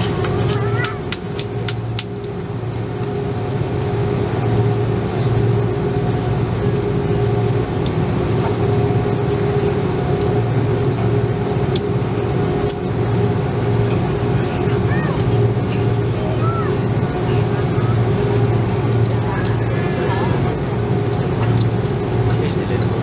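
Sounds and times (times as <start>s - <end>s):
aircraft engines droning: 0.0s - 23.0s.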